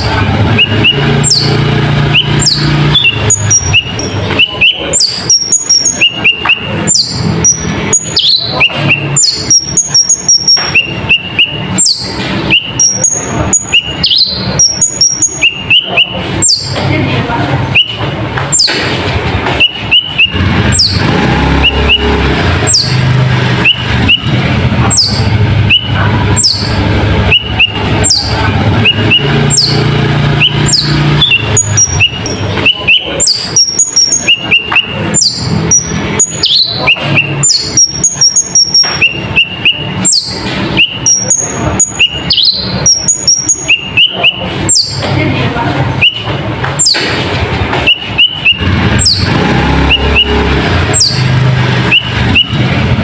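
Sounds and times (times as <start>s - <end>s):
bird chirps and clicks: 0.0s - 16.9s, 17.7s - 45.2s, 46.0s - 52.6s
songbird singing: 0.0s - 53.0s.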